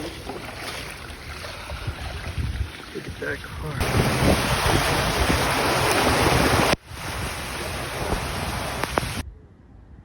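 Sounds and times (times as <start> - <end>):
water: 0.0 - 9.2
wind buffeting microphone: 1.1 - 9.4
storm wind: 1.2 - 10.0.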